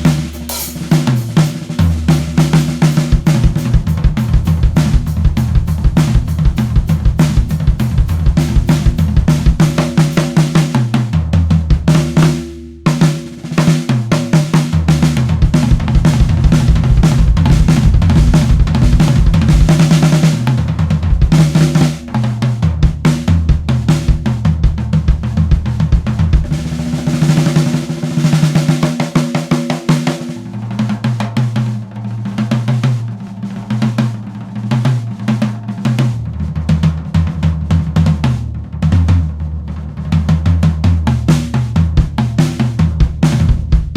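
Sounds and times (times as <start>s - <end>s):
drum kit playing fills: 0.0s - 43.9s.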